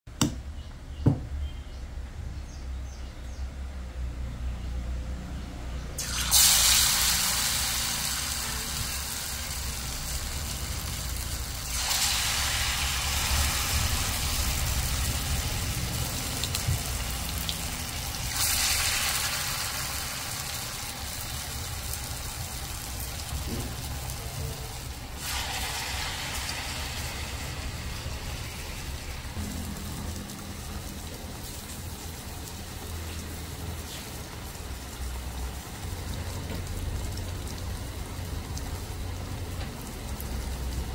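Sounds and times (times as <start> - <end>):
deep-frying crackling sizzle: 2.6 - 40.9.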